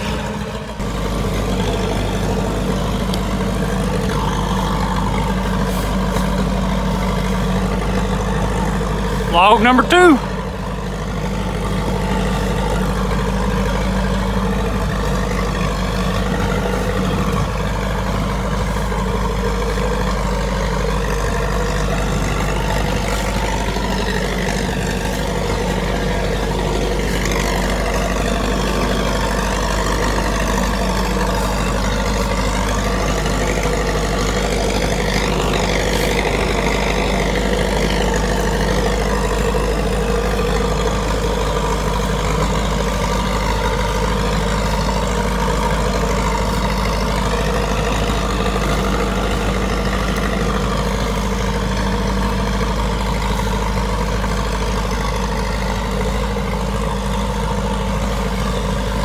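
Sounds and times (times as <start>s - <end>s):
dozer engine running under load: 0.0s - 59.0s.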